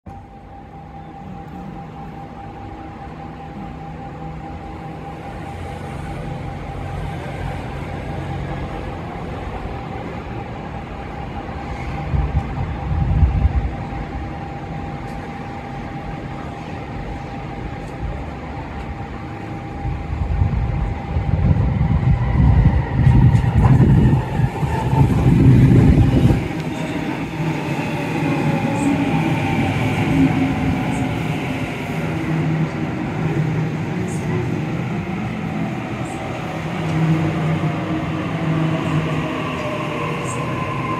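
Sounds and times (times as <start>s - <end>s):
train wheels rumbling on track: 0.1s - 40.9s.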